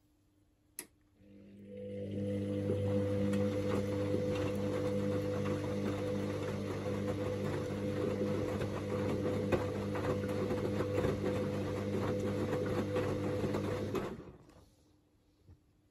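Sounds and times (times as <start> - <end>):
washing machine motor humming: 1.2 - 14.4.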